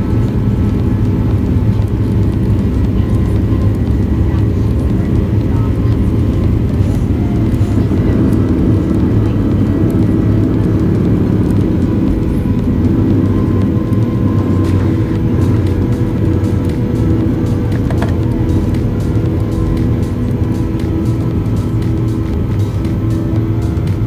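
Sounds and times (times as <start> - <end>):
jet engines roaring inside cabin: 0.0 - 24.0.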